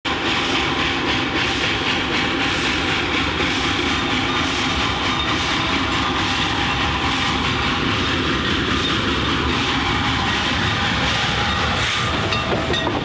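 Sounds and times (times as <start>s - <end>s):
steam locomotive approaching: 0.1s - 13.0s.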